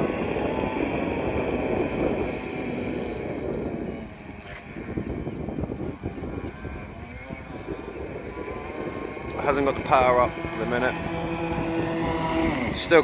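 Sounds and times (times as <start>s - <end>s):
rc boat motor whining: 0.0s - 13.0s.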